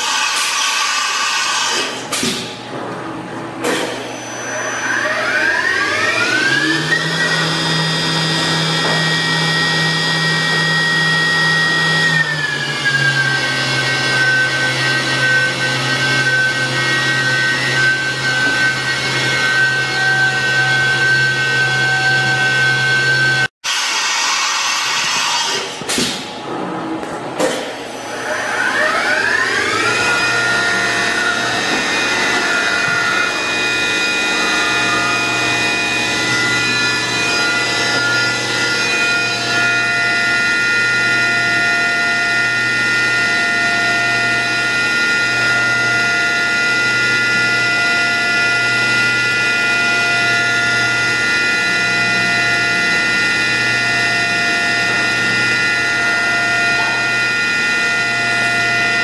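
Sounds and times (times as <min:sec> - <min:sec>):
mill spindle high whine: 0:00.0 - 0:59.0.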